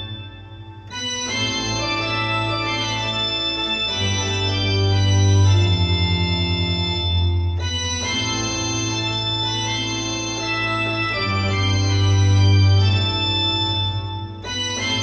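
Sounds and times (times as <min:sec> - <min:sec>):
organ chords on keyboard: 0:00.0 - 0:15.0.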